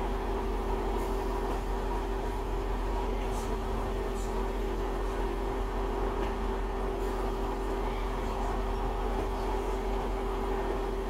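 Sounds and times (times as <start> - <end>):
mid-pitched hum: 0.0 - 11.0
train engine drone: 0.0 - 11.0.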